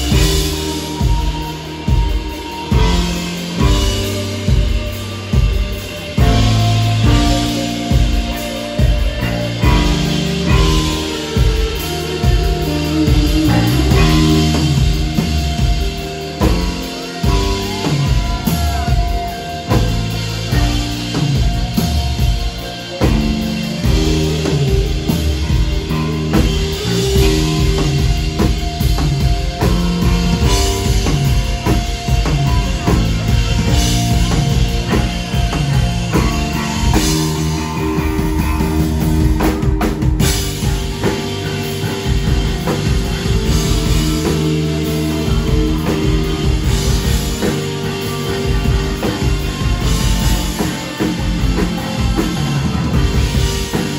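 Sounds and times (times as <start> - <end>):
drum kit beat: 0.0 - 53.9
live rock band playing: 0.0 - 53.9.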